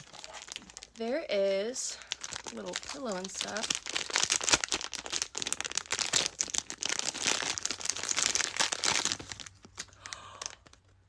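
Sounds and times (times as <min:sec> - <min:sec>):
packaging crinkling: 0:00.0 - 0:01.1, 0:01.9 - 0:11.0.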